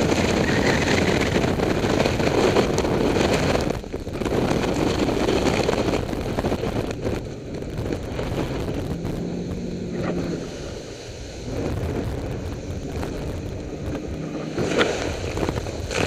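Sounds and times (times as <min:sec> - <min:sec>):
water against hull: 0:00.0 - 0:16.0
wind on microphone: 0:00.0 - 0:16.0
outboard engine low note: 0:01.0 - 0:16.0.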